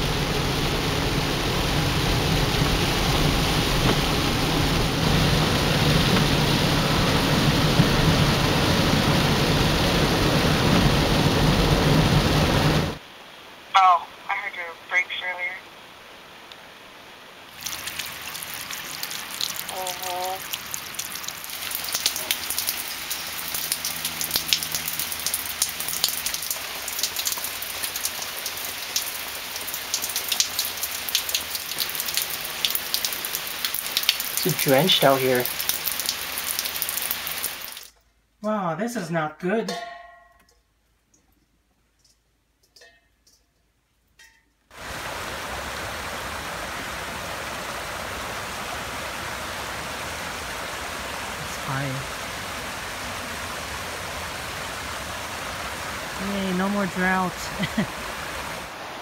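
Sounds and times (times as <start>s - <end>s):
creek water rushing over rocks: 0.0s - 37.9s, 44.7s - 59.0s
rain on concrete: 0.0s - 38.5s, 40.4s - 59.0s.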